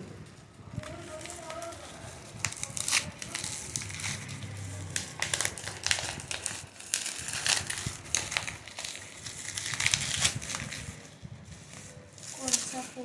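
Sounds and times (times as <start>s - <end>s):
packaging crinkling and rustling: 0.2s - 13.0s.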